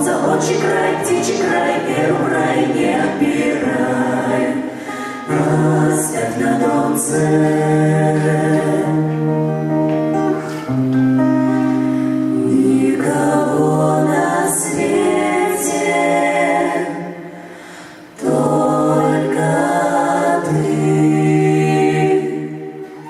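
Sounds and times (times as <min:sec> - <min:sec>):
vocal ensemble singing harmony: 0:00.0 - 0:23.0.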